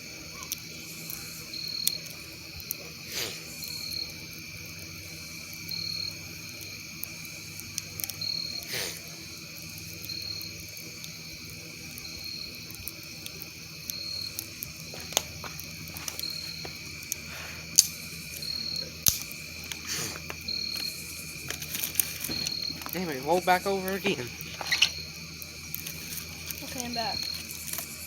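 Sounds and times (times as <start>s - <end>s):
campfire popping: 0.0s - 28.0s
continuous high insect trill: 0.0s - 28.0s.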